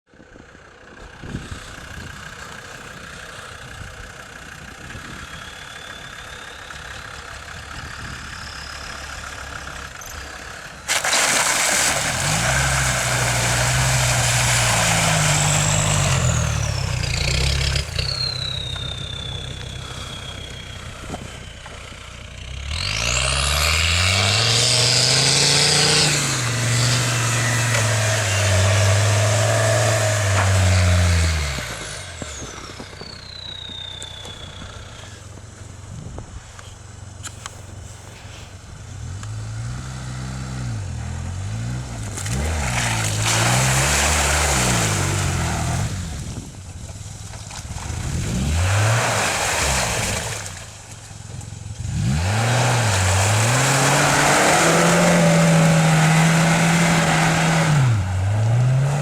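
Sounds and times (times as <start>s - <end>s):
off-road engine revving: 0.5s - 59.0s.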